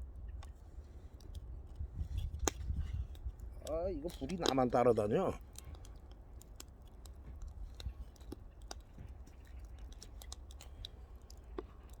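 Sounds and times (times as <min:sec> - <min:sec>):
firewood fire crackling: 0:00.0 - 0:12.0
fire pops and snaps: 0:00.4 - 0:12.0.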